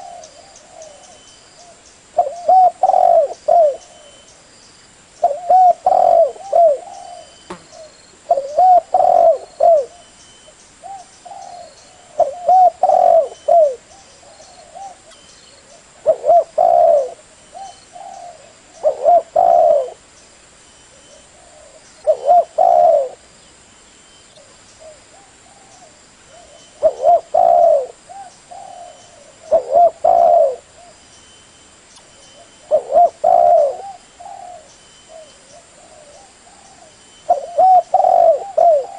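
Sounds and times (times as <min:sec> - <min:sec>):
dove cooing: 0:00.0 - 0:04.3, 0:05.2 - 0:10.1, 0:10.8 - 0:20.0, 0:20.9 - 0:23.2, 0:24.3 - 0:31.0, 0:32.4 - 0:38.9.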